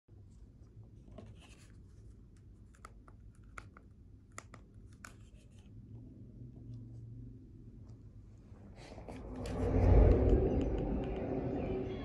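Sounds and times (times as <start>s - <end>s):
low steady hum: 0.1s - 12.0s.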